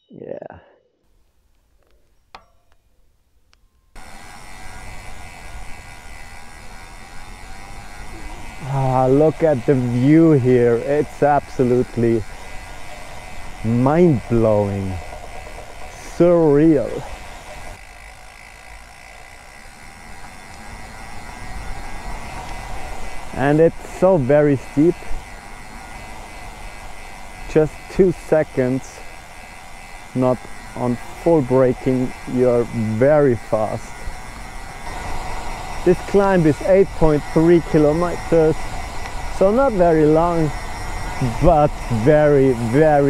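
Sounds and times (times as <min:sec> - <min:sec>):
bicycle whirring and rumbling: 0:03.9 - 0:43.0
wind and road noise from bike: 0:03.9 - 0:43.0.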